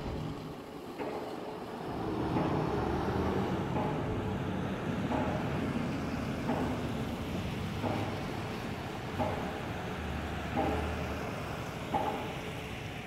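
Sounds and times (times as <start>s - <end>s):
distant pile driver knocks: 0.0s - 12.6s
rumble of passing vehicles: 0.0s - 13.0s.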